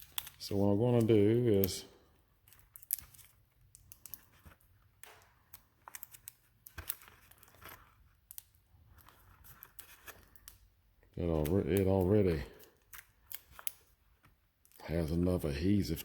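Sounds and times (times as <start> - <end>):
crinkling and tearing: 0.0 - 15.2.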